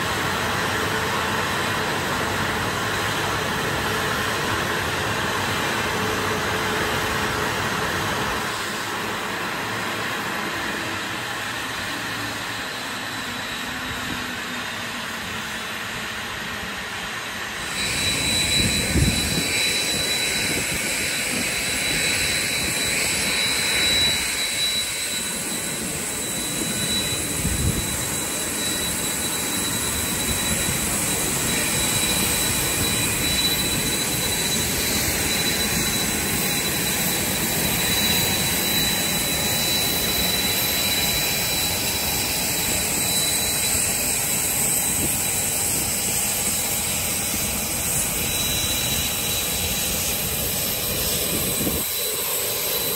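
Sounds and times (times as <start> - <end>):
jet aircraft hiss and whine: 0.0 - 52.9.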